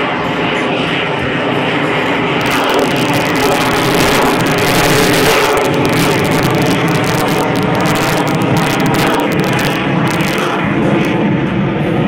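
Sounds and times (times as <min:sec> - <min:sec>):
jet fighter flying overhead: 0:00.0 - 0:12.0.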